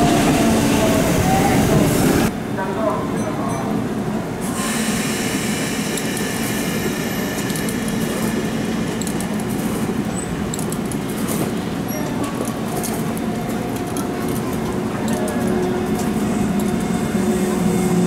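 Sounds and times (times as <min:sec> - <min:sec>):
wheels rumbling on rail: 0:00.0 - 0:02.5, 0:03.1 - 0:18.0.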